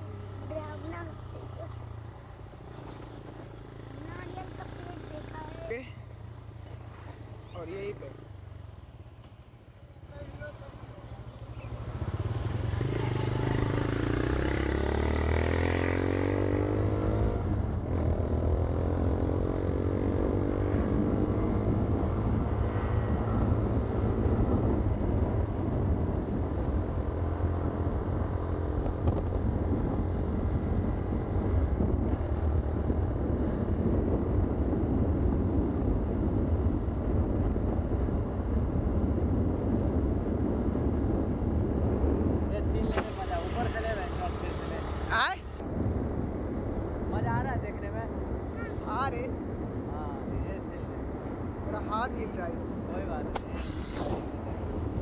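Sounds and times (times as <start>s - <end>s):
motorcycle engine accelerating: 0.0s - 9.0s, 10.1s - 47.6s.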